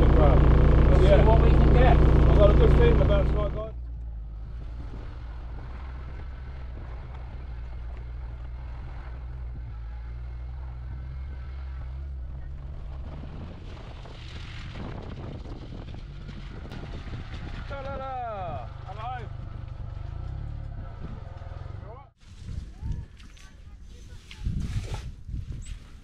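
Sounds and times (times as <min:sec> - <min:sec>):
car engine and road noise: 0:00.0 - 0:22.2.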